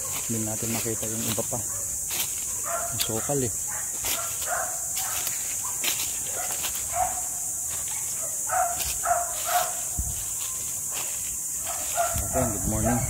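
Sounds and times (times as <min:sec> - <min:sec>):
steps through dry leaves: 0:00.0 - 0:13.0.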